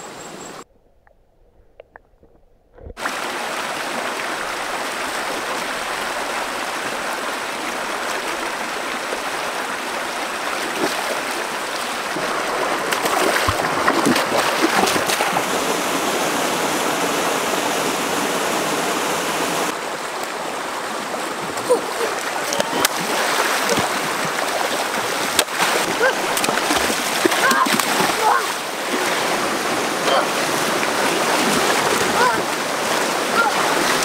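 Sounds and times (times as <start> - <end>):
splashes of wading: 3.0 - 34.0
stream rushing over rocks: 3.0 - 34.0.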